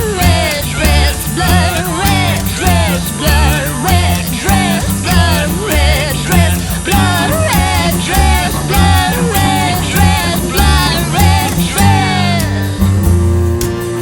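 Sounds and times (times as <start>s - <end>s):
bending lead melody: 0.0s - 14.0s
rock band playing: 0.0s - 14.0s.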